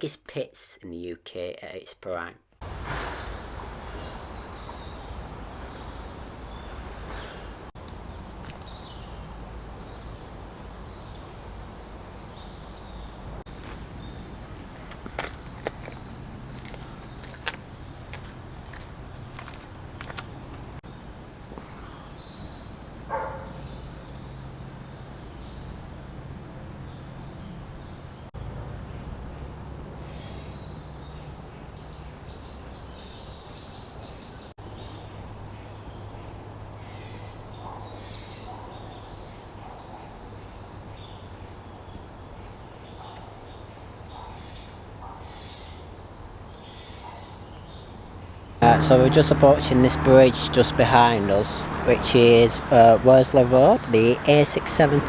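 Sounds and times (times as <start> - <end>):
songbirds chirping: 2.6 - 55.0.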